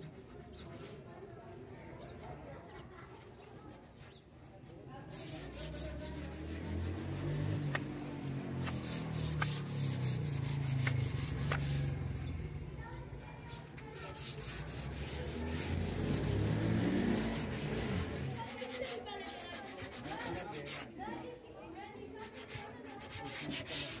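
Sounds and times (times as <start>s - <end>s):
sandpaper rubbing on wood: 0.0s - 1.7s, 3.1s - 12.2s, 13.8s - 21.0s, 22.1s - 24.0s.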